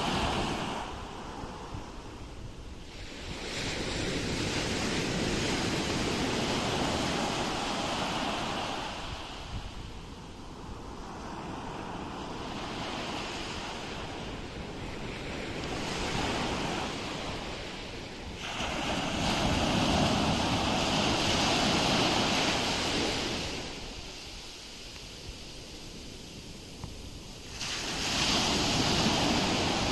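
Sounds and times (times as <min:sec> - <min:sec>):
ocean waves washing ashore: 0:00.0 - 0:29.9.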